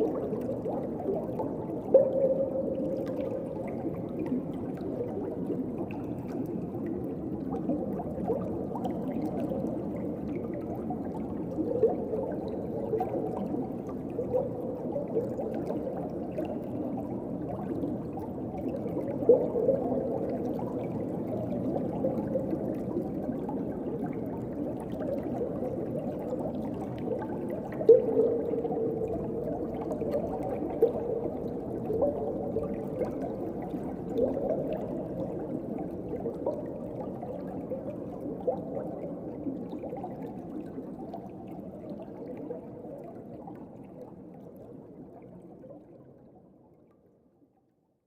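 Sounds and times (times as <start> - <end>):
gurgling bubbling notes: 0.0 - 43.8
underwater water wash: 0.0 - 46.2.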